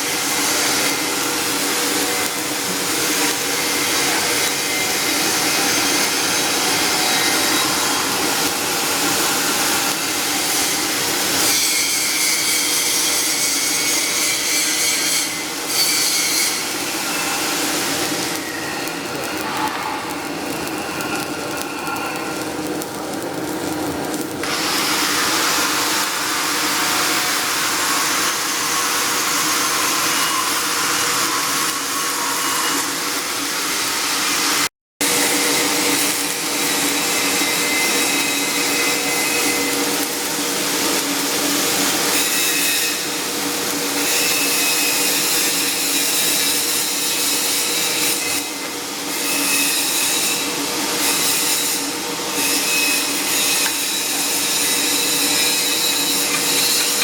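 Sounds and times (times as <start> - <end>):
welding arc hiss: 0.0 - 57.0.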